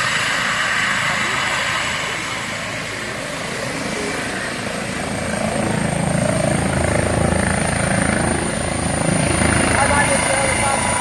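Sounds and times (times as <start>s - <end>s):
helicopter rotor chop: 0.0s - 11.0s
high turbine whine: 0.0s - 11.0s.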